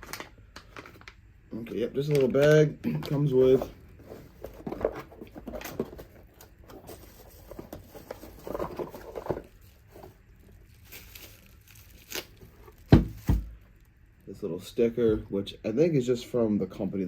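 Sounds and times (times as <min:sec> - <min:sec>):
plastic bag rustling: 0:00.0 - 0:13.9.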